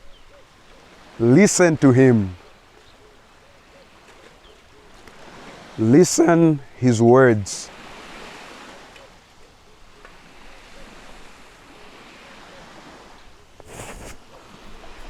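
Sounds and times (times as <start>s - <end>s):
wind: 0.0s - 15.0s
ocean waves washing on shore: 0.4s - 15.0s.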